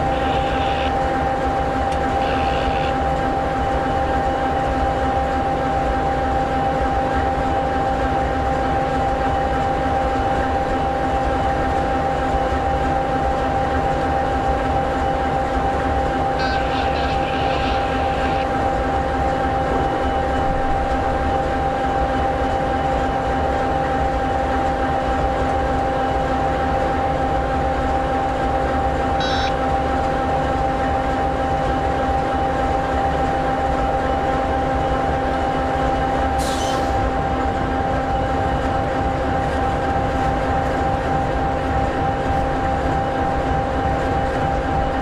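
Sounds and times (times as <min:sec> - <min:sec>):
diesel locomotive idling: 0:00.0 - 0:45.0.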